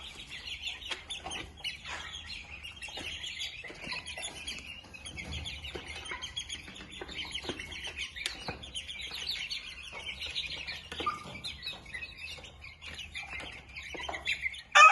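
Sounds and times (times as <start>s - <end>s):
young chickens cheeping: 0.0s - 14.9s.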